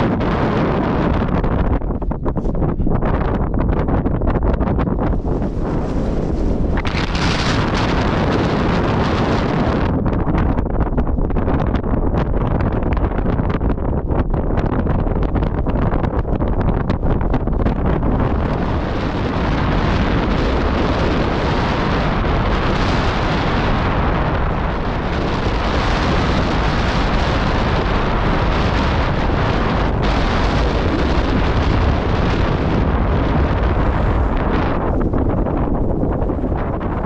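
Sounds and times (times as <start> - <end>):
gusty wind on microphone: 0.0 - 37.0.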